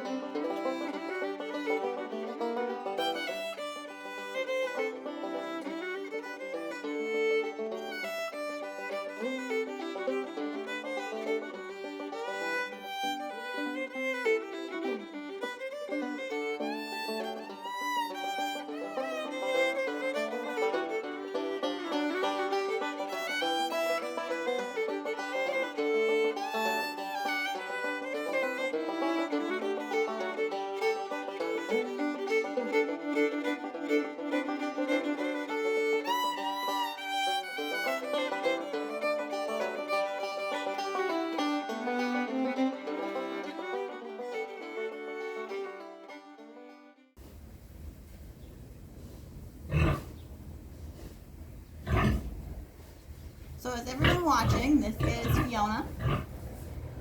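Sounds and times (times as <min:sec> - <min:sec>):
fiddle-led music: 0:00.0 - 0:57.0.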